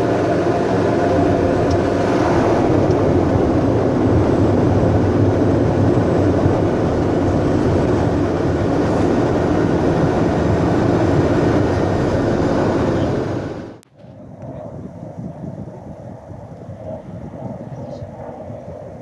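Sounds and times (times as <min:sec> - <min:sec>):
turboprop engine running: 0:00.0 - 0:19.0.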